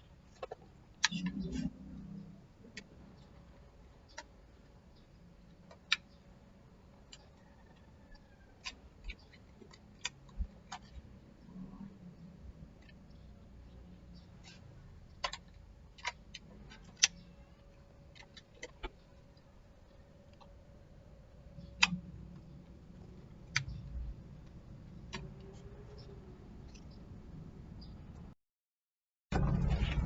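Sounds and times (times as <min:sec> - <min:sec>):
faint steady hum: 0:00.0 - 0:28.4.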